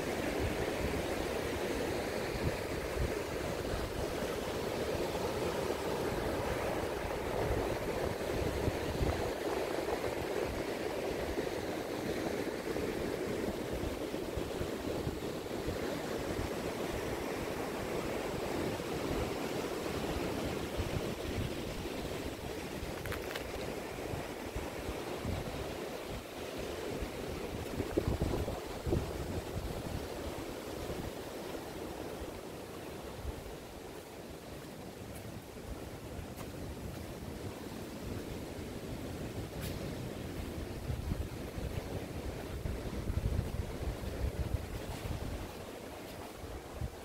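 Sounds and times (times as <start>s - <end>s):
ocean surf breaking on beach: 0.0s - 47.0s
wind rumble on microphone: 4.9s - 32.3s, 35.1s - 47.0s.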